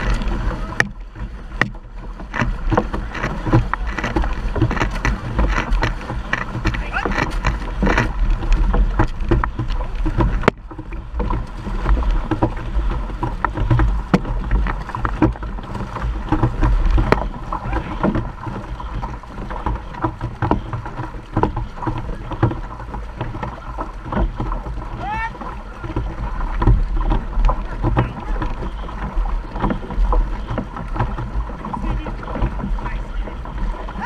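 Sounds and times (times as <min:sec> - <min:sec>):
paddles splashing in water: 0:00.0 - 0:34.0
water rushing along hull: 0:00.0 - 0:34.0.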